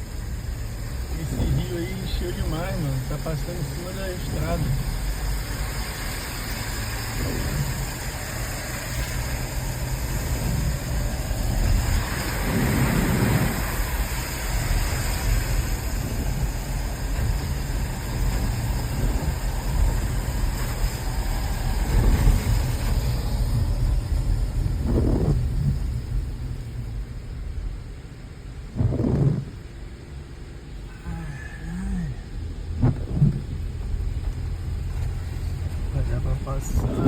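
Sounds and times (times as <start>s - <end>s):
car engine rumble: 0.0s - 37.0s
tyres on road: 0.0s - 37.0s.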